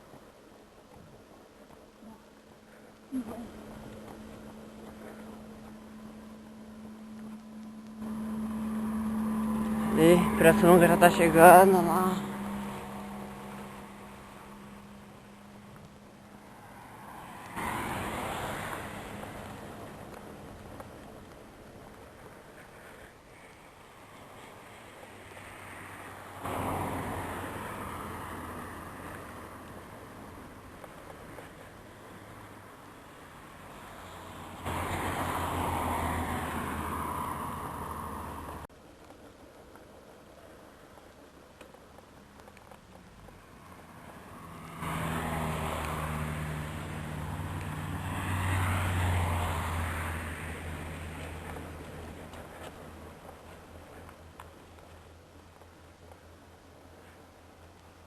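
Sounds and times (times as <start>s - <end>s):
low engine hum: 0.0s - 23.2s, 24.0s - 58.0s
passing vehicle rush: 2.6s - 38.7s, 42.4s - 55.4s.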